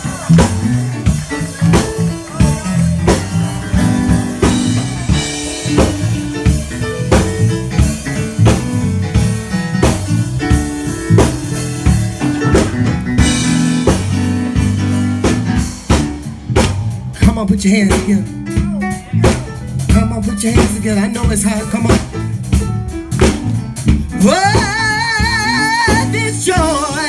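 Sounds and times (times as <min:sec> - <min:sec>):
busy bass line: 0:00.0 - 0:27.0
drum kit steady beat: 0:00.0 - 0:27.0
guitar: 0:00.0 - 0:27.0.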